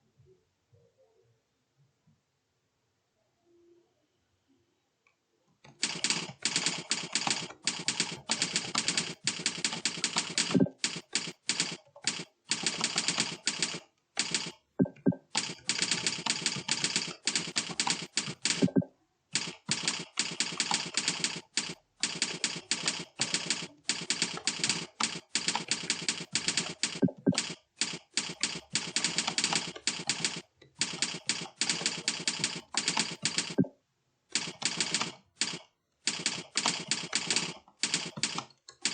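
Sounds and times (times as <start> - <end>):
fast typing on keyboard: 5.7 - 33.7, 34.3 - 38.9.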